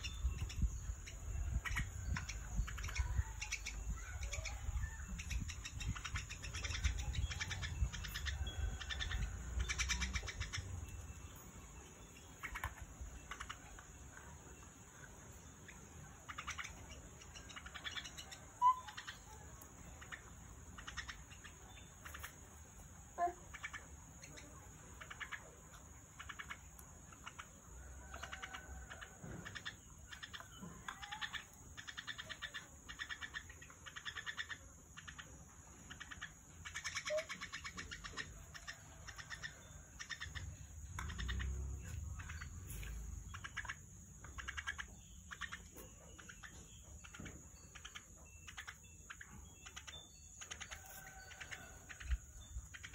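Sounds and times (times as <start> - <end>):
birds chirping: 0.0 - 52.9
steady high-pitched hiss: 0.0 - 52.9.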